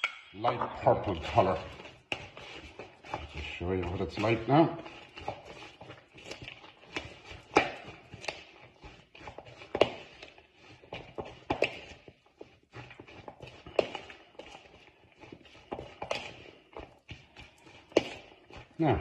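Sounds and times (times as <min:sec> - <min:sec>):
utensil tapping and scraping bowl: 0:00.0 - 0:19.0.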